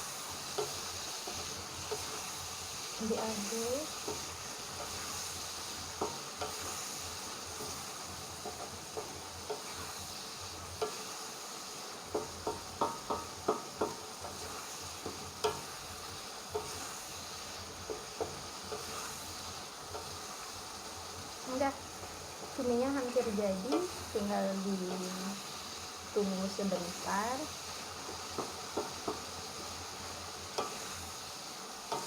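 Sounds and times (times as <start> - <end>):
food sizzling in hot oil: 0.0 - 32.0.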